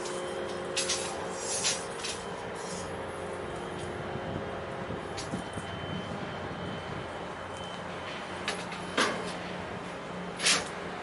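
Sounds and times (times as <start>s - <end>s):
faint high whine: 0.0s - 9.2s
ship engines droning: 0.0s - 11.0s.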